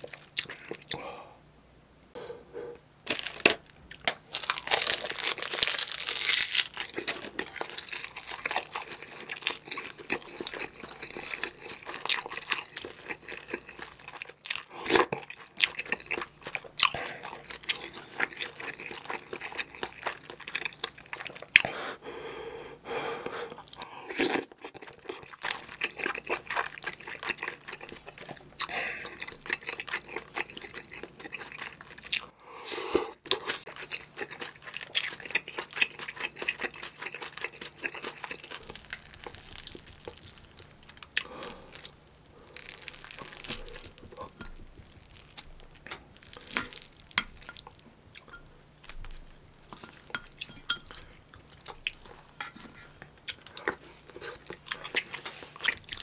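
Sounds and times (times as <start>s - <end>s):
wet chewing and crunching: 3.1s - 21.7s, 23.5s - 32.4s, 33.1s - 56.0s.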